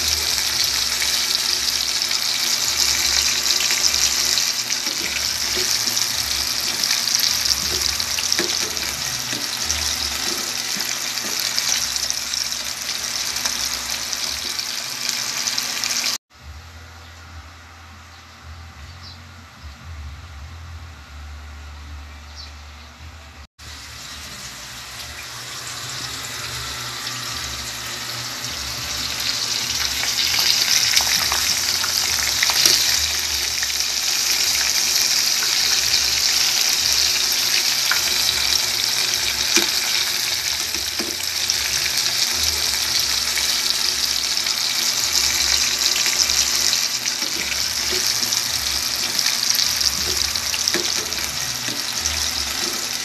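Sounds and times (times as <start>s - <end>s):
chicken frying in hot oil: 0.0s - 16.2s, 23.6s - 53.0s.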